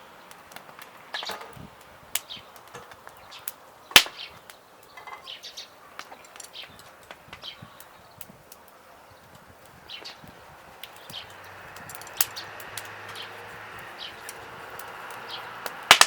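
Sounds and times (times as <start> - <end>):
birds chirping: 0.0 - 15.8
wood fire crackling: 0.0 - 16.0.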